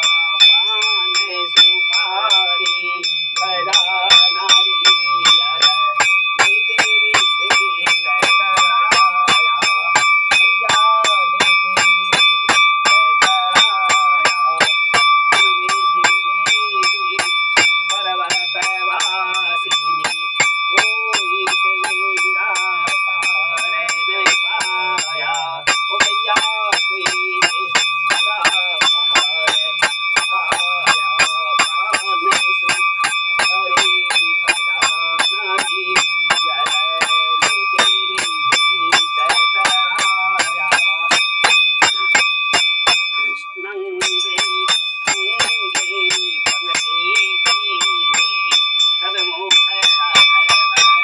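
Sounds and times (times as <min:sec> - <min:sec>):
people's voices: 0:00.0 - 0:48.4, 0:49.0 - 0:51.0
metal bell struck rapidly: 0:00.0 - 0:51.0.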